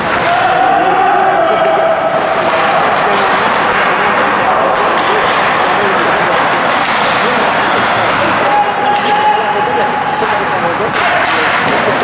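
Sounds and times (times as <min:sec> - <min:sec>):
crowd yelling and cheering: 0:00.0 - 0:12.0.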